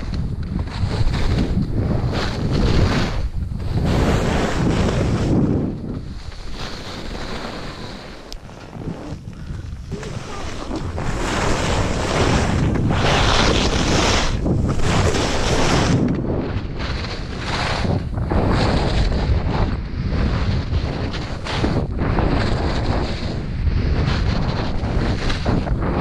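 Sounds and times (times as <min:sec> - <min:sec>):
skis scraping over snow: 0:00.0 - 0:26.0
wind rushing over microphone: 0:00.0 - 0:26.0.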